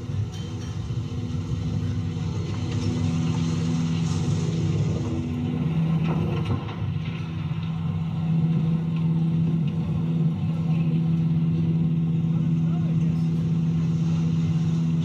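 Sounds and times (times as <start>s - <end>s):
motor hum and whine: 0.0s - 15.0s.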